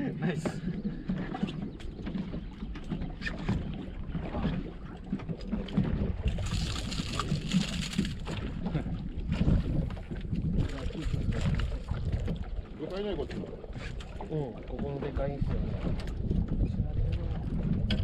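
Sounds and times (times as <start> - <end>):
wind and water noise: 0.0 - 18.0.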